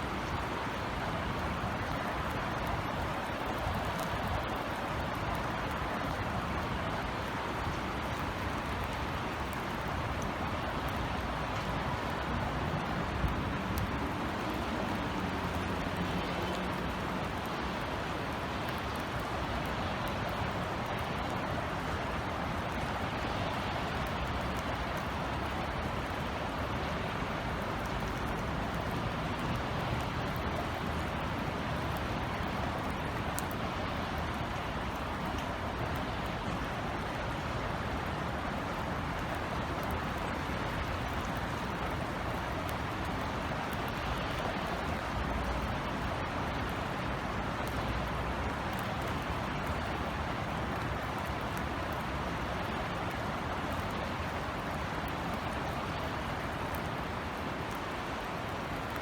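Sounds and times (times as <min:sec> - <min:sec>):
low rumble of city traffic: 0:00.0 - 0:59.0
steady rain hiss: 0:00.0 - 0:59.0
sharp drip ticks: 0:01.4 - 0:59.0.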